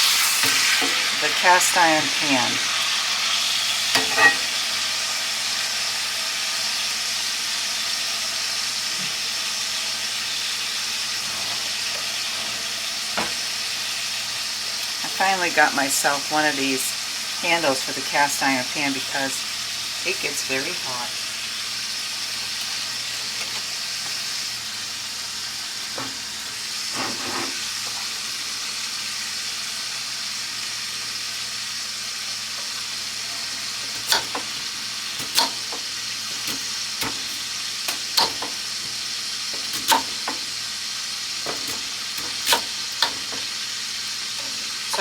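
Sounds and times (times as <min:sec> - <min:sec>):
chicken sizzling in skillet: 0:00.0 - 0:45.0.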